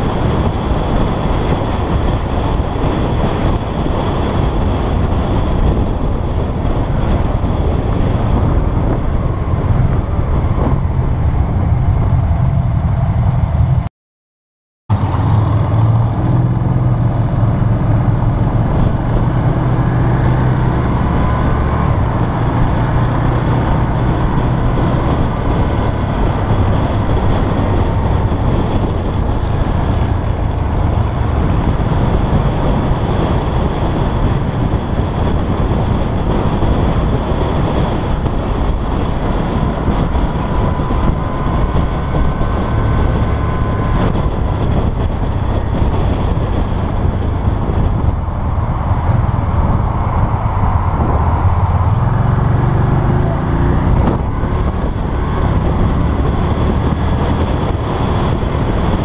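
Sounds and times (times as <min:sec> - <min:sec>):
motorcycle engine running: 0:00.0 - 0:13.8, 0:14.9 - 0:59.0
wind rush on microphone: 0:00.0 - 0:13.9, 0:14.9 - 0:59.0.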